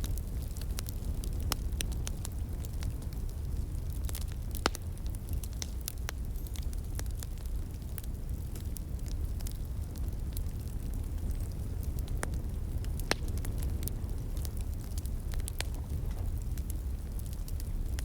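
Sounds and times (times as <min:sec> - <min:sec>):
fire pops and snaps: 0:00.0 - 0:18.0
wood fire crackling: 0:00.0 - 0:18.0.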